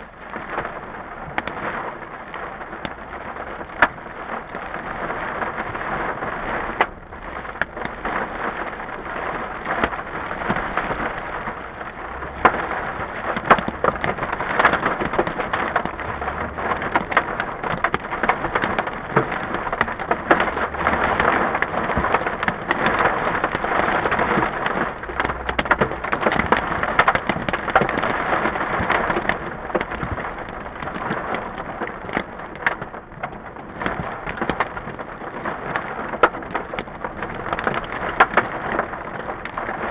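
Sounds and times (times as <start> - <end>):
hail and rain drumming on car roof: 0.0 - 39.9.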